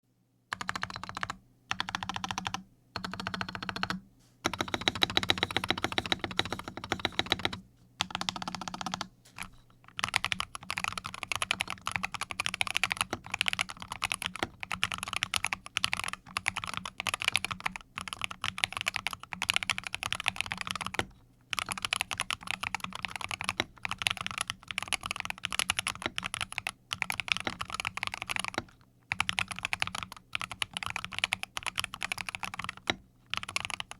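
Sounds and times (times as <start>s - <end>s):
keyboard typing: 0.5s - 33.9s.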